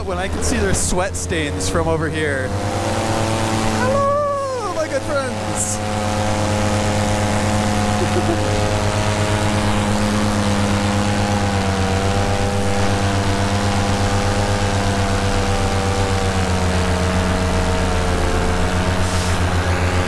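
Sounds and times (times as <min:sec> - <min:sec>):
paramotor engine rattly drone: 0:00.0 - 0:20.0.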